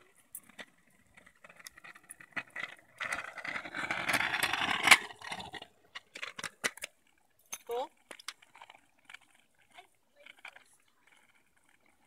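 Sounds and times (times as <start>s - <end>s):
scooter wheels rolling over asphalt: 0.0s - 12.0s.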